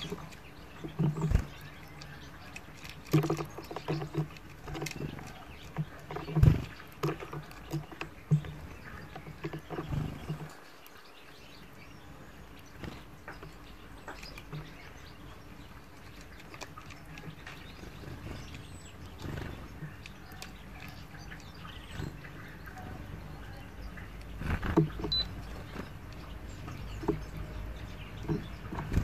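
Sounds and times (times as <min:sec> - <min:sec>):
bird chirp: 0:00.0 - 0:29.0
finches husking seeds: 0:00.0 - 0:29.0.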